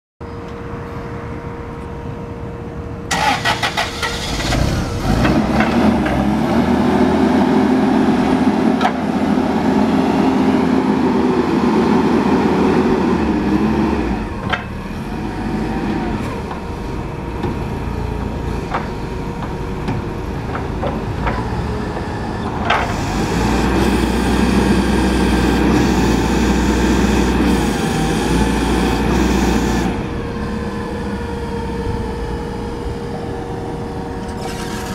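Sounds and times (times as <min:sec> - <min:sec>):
forklift engine starting and running: 0:02.7 - 0:34.9.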